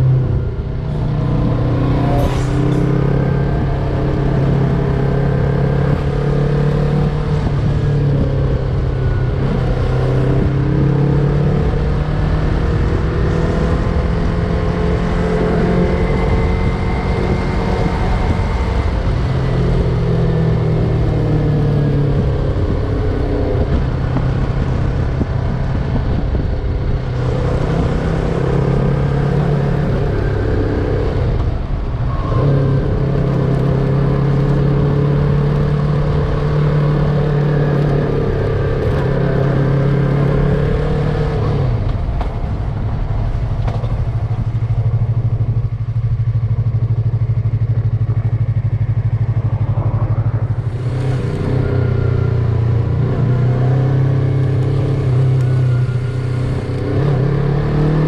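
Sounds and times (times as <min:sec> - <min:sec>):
motorcycle engine revving: 0:00.0 - 0:58.0
road and wind noise: 0:00.0 - 0:58.0.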